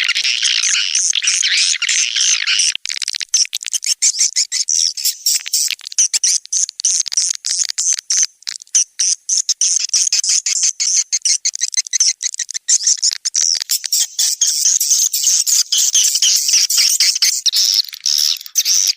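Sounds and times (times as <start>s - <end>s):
high twittering bird chirps: 0.0s - 18.9s.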